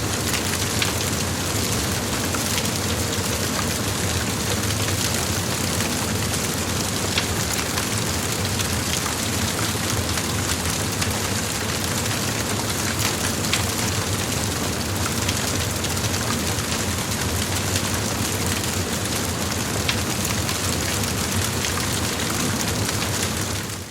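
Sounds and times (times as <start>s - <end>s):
fire crackles and pops: 0.0s - 23.9s.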